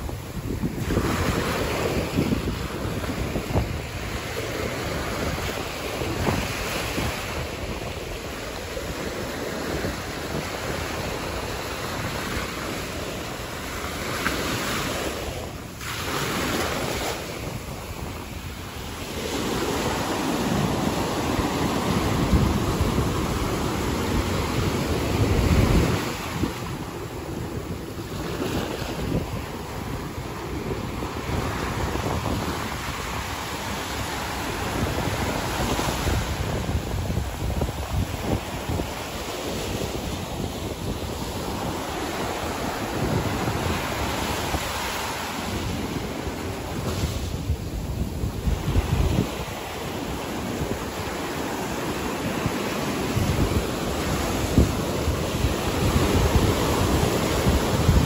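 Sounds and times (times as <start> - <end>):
ocean waves on a beach: 0.0 - 58.0
wind buffeting the microphone: 0.0 - 58.0.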